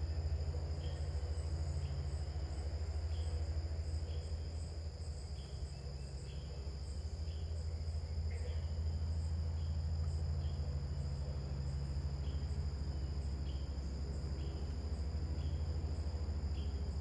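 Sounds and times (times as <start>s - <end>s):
crickets trilling: 0.0s - 17.0s
steady low hum: 0.0s - 17.0s.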